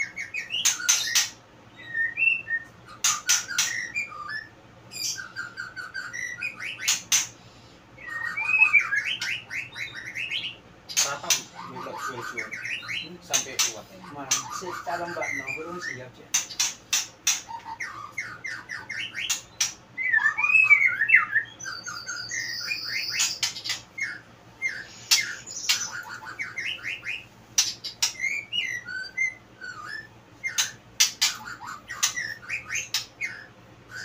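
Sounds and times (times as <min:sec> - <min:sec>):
bird singing: 0:00.0 - 0:34.0.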